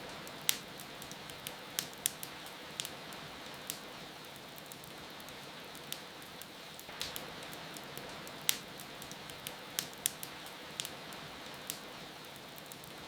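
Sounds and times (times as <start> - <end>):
rain hiss: 0.0 - 13.0
wood fire crackling: 0.0 - 13.0.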